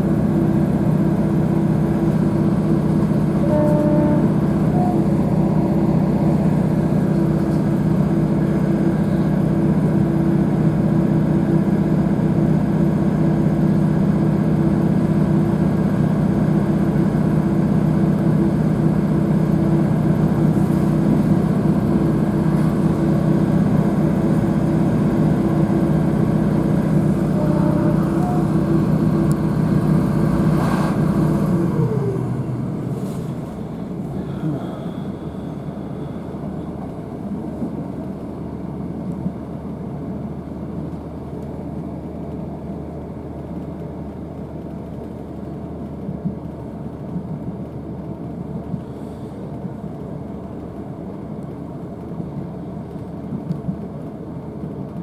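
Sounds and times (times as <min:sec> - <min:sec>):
diesel train engine droning: 0:00.0 - 0:55.0.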